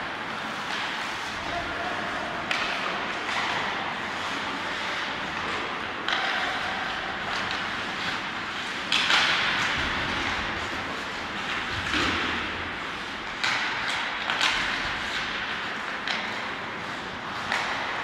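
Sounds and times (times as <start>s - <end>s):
hockey sticks knocking puck: 0.0s - 18.0s
skate blades scraping on ice: 0.2s - 18.0s.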